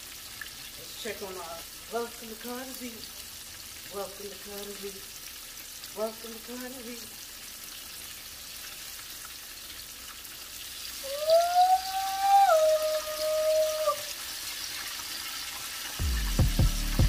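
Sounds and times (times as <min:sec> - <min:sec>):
oil bubbling and hissing: 0:00.0 - 0:17.0.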